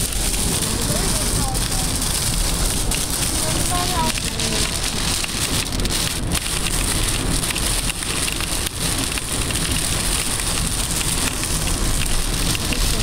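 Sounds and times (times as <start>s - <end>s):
heavy rain on car roof: 0.0s - 13.0s
steady low rumble: 0.0s - 13.0s.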